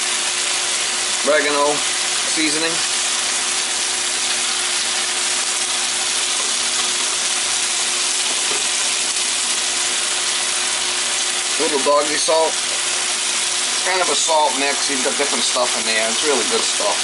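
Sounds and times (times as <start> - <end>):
vegetables sizzling in a skillet: 0.0 - 17.0.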